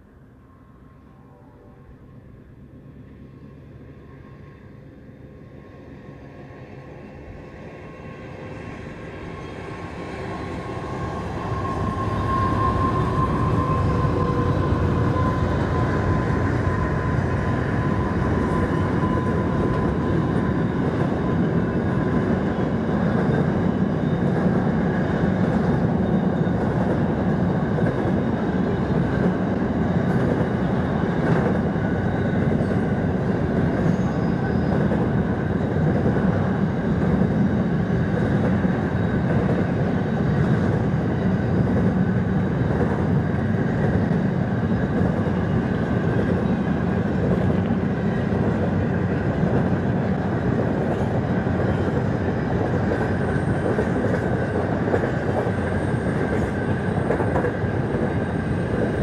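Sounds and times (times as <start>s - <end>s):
diesel locomotives approaching: 0.0s - 59.0s.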